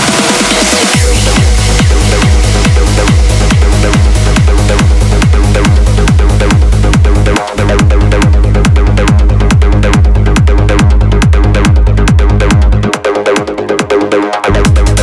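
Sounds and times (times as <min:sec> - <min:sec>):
trance music: 0:00.0 - 0:15.0.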